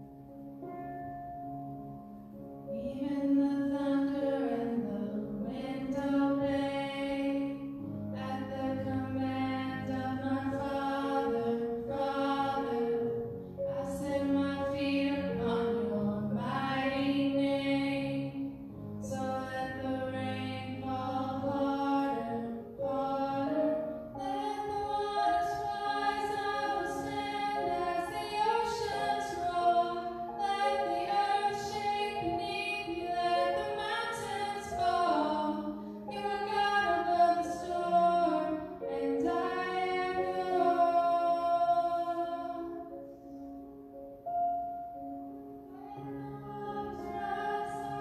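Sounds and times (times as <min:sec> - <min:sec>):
women singing worship song: 0:02.8 - 0:43.0, 0:45.8 - 0:48.0.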